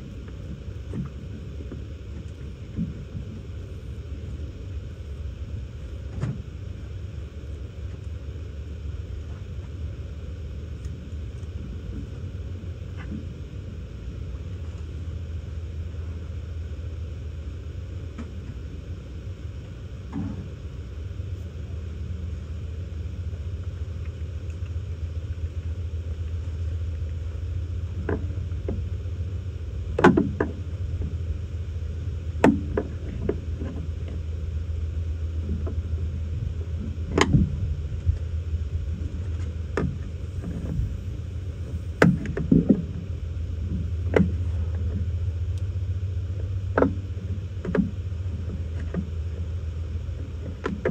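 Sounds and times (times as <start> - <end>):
low rumble: 0.0 - 50.9.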